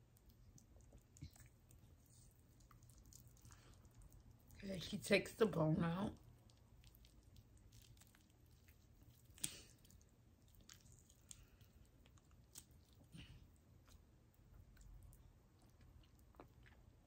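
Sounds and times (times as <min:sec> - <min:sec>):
wet squishing: 0:00.0 - 0:17.0.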